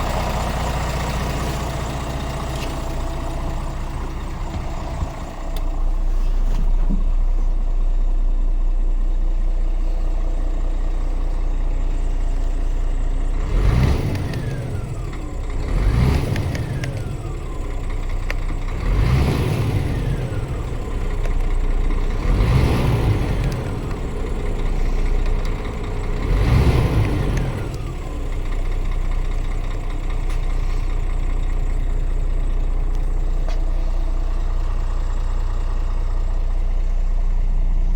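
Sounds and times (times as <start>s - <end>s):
diesel truck engine idling and revving: 0.0s - 37.9s.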